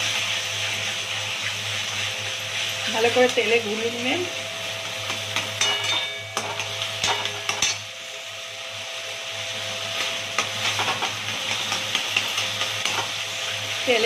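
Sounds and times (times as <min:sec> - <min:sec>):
leaves sizzling in hot oil: 0:00.0 - 0:14.0.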